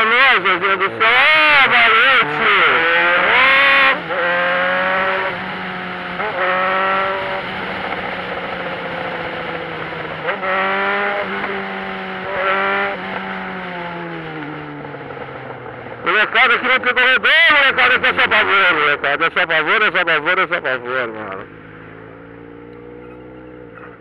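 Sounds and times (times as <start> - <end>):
vehicle engine drone: 0.0 - 24.0.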